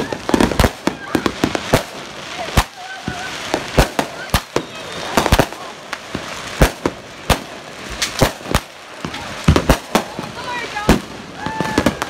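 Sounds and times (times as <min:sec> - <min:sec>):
firework bangs: 0:00.0 - 0:12.0
hissing crackle of fountain firework: 0:00.0 - 0:12.0.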